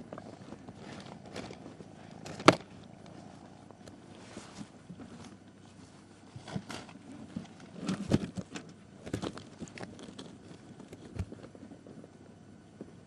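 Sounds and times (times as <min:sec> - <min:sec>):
crunching and rustling: 0:00.0 - 0:13.0.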